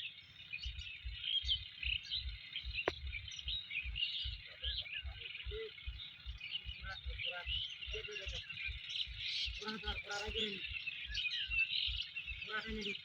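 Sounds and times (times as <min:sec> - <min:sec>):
low rhythmic thumping: 0:00.0 - 0:13.0
small birds chirping: 0:00.0 - 0:13.0.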